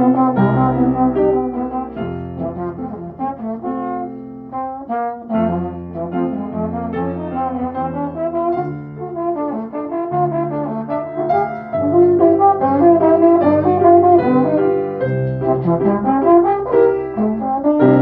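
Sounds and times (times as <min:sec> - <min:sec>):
brass ensemble playing: 0:00.0 - 0:18.0.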